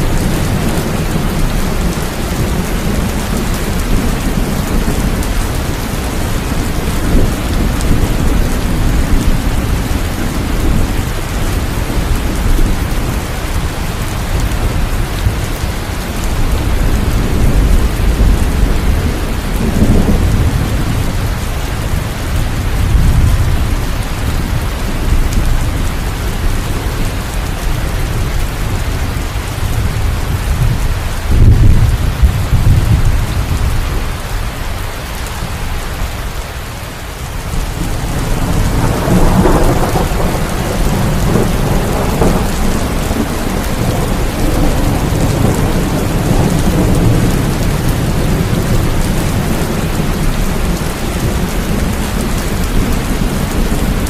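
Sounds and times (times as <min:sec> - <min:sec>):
rolling thunder: 0:00.0 - 0:34.3, 0:37.4 - 0:54.0
steady rain: 0:00.0 - 0:54.0.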